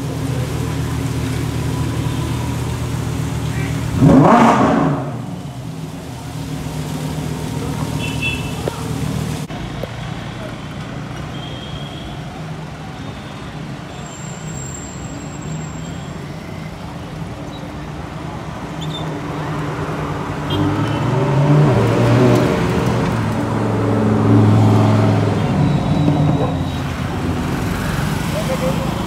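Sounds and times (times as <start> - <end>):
cars driving past at low revs: 0.0 - 11.2, 16.2 - 29.0.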